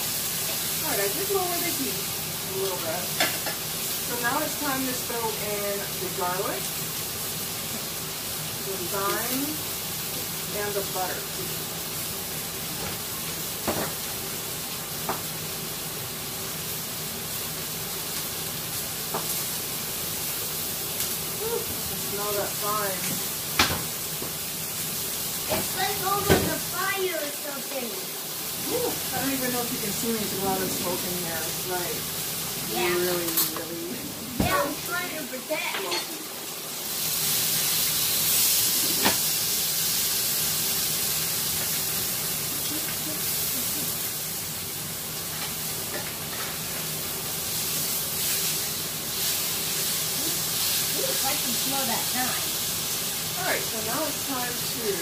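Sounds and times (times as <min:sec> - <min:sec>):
steak sizzling in a pan: 0:00.0 - 0:55.0.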